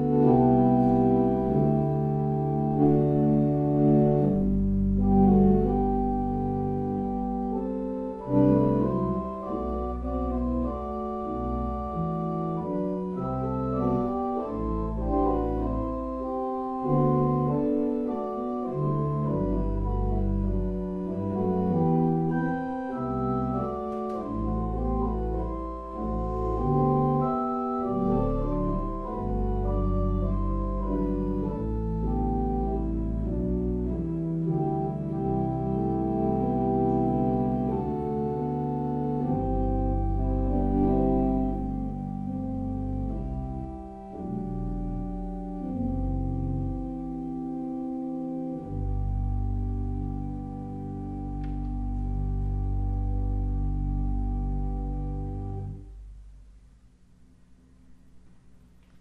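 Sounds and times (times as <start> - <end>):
organ playing slow chords: 0.0 - 56.8.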